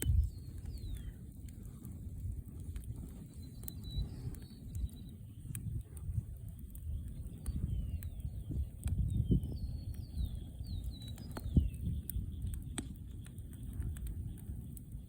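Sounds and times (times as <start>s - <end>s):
campfire crackling and popping: 0.0s - 15.0s
small birds chirping: 0.0s - 15.0s.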